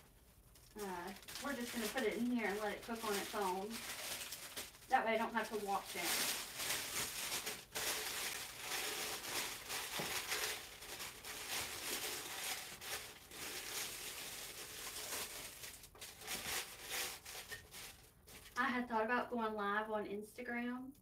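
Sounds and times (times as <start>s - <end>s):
plastic liner crinkling: 0.0s - 18.6s.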